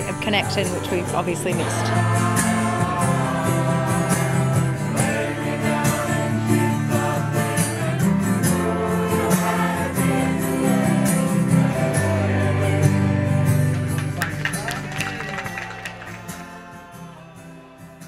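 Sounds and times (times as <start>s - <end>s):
choir singing: 0.0s - 13.7s, 16.0s - 18.0s.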